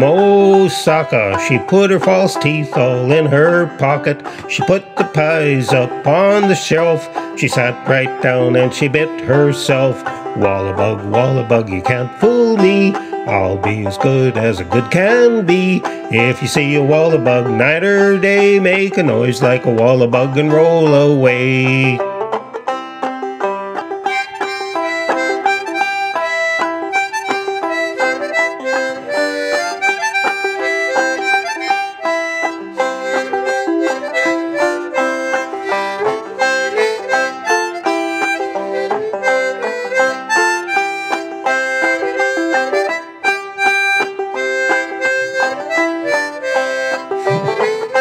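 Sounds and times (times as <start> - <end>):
banjo strumming: 0.0 - 48.0
harmonica melody: 0.0 - 48.0.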